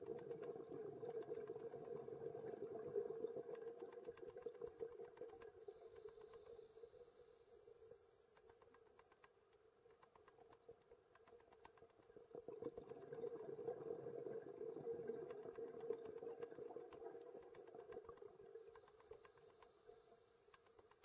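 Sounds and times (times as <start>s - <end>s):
scattered light clicks underwater: 0.0s - 21.0s.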